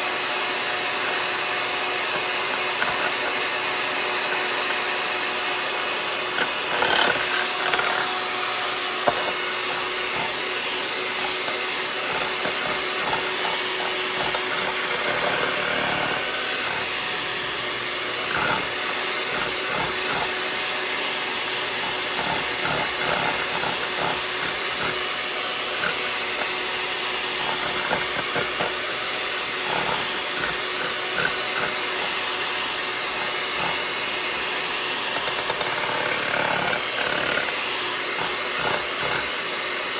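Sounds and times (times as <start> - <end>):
electric hand mixer running: 0.0 - 39.9.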